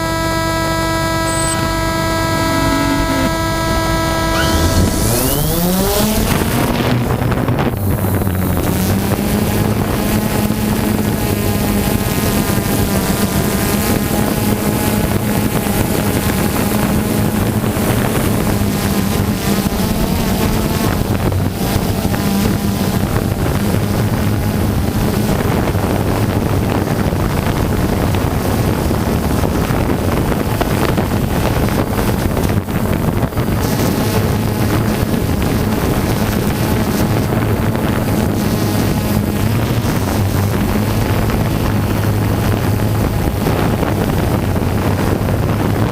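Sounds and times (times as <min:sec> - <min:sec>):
aircraft motor humming: 0:00.0 - 0:45.9
wind noise on microphone: 0:00.0 - 0:45.9.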